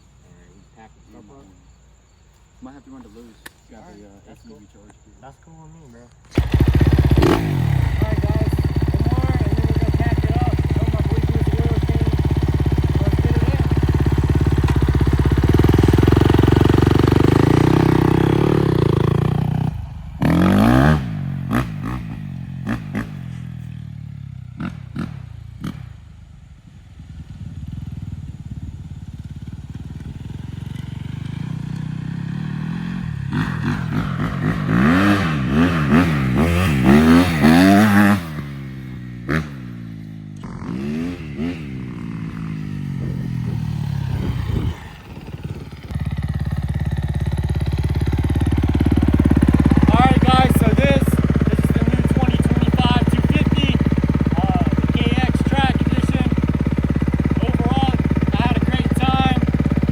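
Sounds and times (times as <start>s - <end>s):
dirt bike engine revving: 6.3s - 59.9s.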